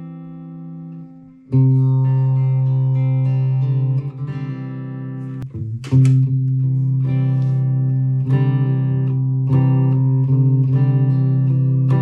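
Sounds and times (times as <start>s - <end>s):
electric guitar playing: 0.0s - 12.0s.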